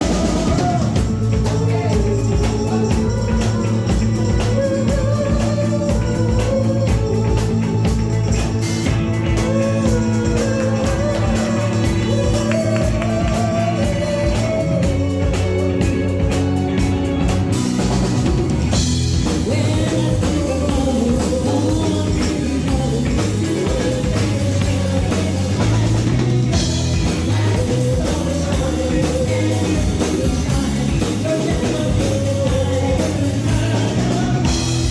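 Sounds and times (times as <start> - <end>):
drums: 0.0 - 34.9
guitar: 0.0 - 34.9
person singing: 0.0 - 34.9.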